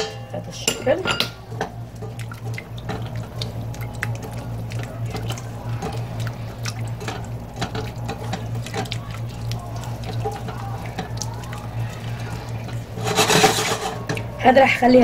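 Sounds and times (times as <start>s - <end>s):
steady low hum: 0.0s - 15.0s
spatula stirring sauce in pan: 1.4s - 14.6s.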